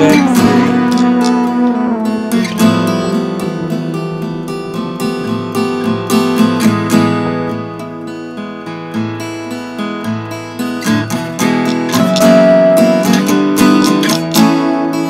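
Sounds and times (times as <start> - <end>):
acoustic guitar folk music: 0.0 - 15.0.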